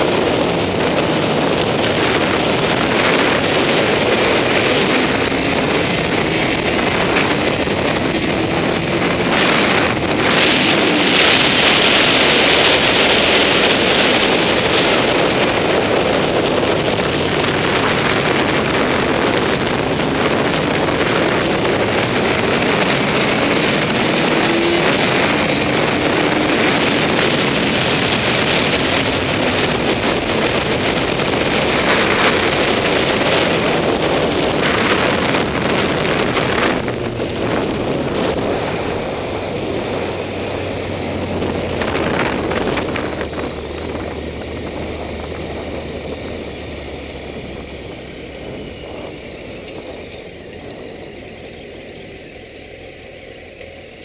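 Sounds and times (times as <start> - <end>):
wind rushing over camera: 0.0 - 51.9
motorcycle engine running: 0.0 - 54.0.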